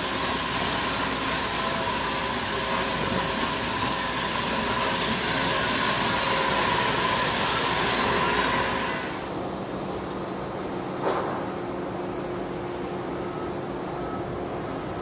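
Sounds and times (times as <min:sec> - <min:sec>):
machinery hissing whir: 0:00.0 - 0:15.0
machinery hum: 0:00.0 - 0:15.0.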